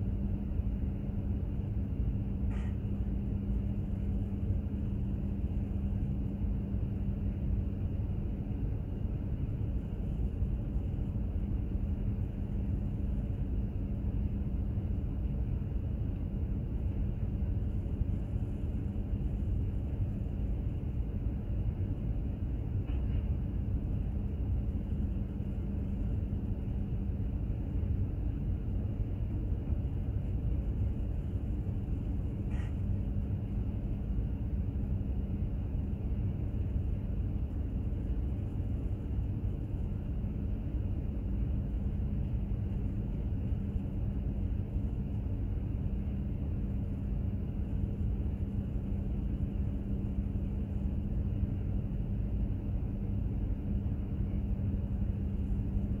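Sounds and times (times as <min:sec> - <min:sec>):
machinery hum: 0:00.0 - 0:56.0.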